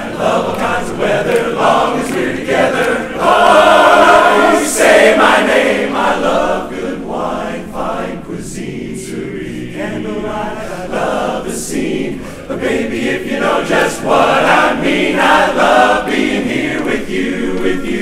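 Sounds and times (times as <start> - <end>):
men's chorus singing a cappella: 0.0 - 18.0.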